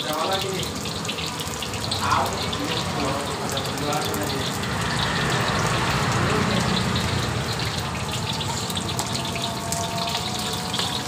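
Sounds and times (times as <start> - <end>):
chicken frying in hot oil: 0.0 - 11.0
gas burner rumble: 0.6 - 11.0.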